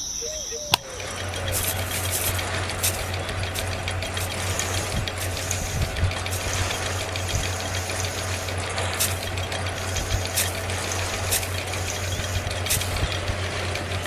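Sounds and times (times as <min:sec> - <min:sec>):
small motor humming: 0:00.0 - 0:14.0
light clicks and rattles: 0:00.7 - 0:14.0.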